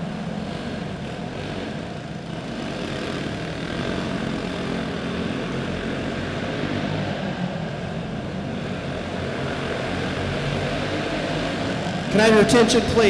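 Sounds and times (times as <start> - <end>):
kart engines droning: 0.0 - 13.0.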